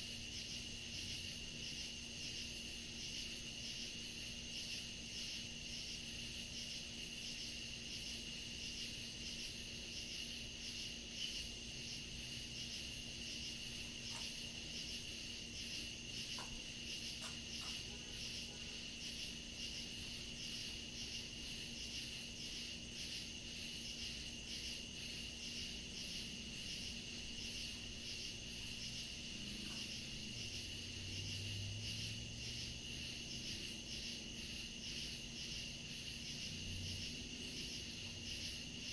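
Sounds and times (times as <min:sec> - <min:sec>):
crickets trilling: 0:00.0 - 0:38.9
pulsing insect chirring: 0:00.0 - 0:38.9.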